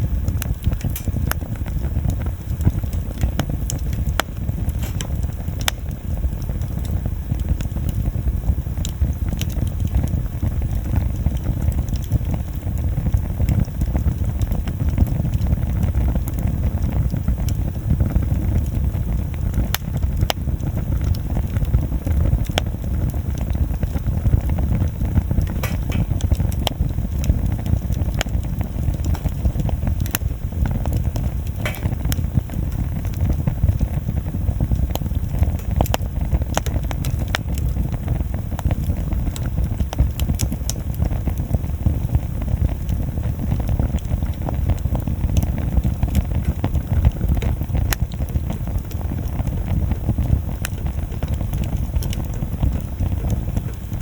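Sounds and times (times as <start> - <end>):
burning wood crackling: 0.0 - 54.0
low rumble of fire: 0.0 - 54.0.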